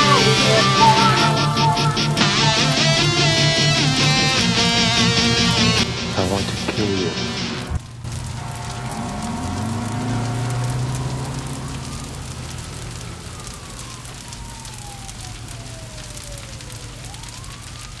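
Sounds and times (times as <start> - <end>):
siren wailing: 0.0 - 6.2, 7.1 - 18.0
low drone: 0.0 - 17.6
crackling hiss: 0.0 - 18.0.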